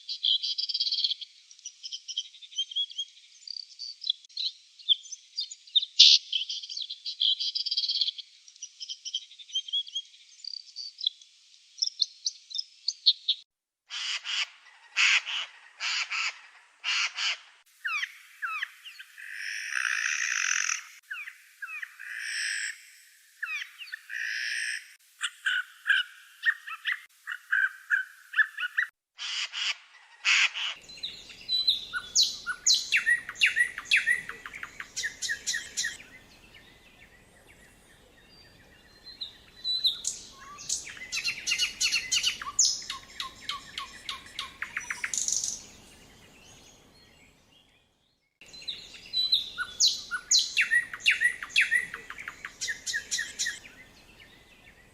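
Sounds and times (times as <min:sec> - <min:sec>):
songbirds singing: 0:00.0 - 0:13.4, 0:14.0 - 0:54.9.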